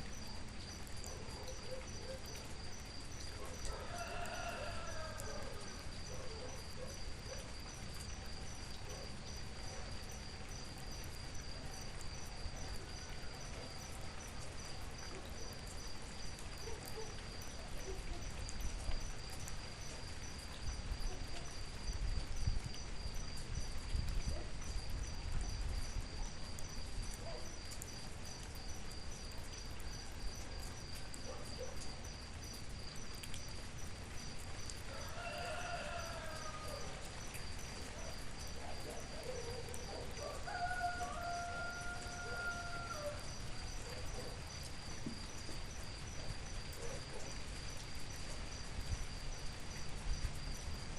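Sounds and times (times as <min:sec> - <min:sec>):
cricket chirping: 0:00.0 - 0:50.9
steady rain hiss: 0:00.0 - 0:50.9.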